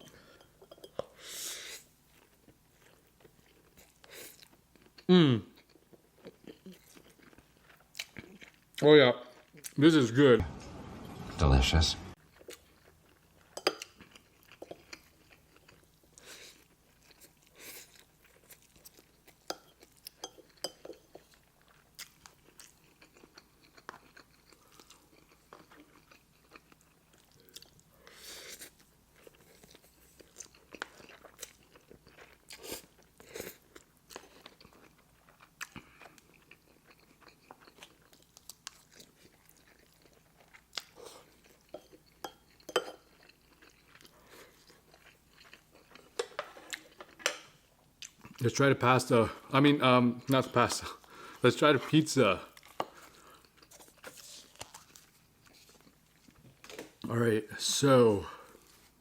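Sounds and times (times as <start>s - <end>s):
chewing and mouth smacking: 2.1s - 9.8s, 12.2s - 27.9s, 28.5s - 48.4s, 52.5s - 57.0s.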